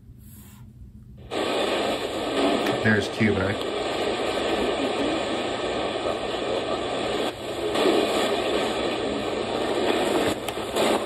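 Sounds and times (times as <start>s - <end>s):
radio static hiss: 1.2s - 11.0s
weak shortwave radio broadcast: 1.2s - 11.0s.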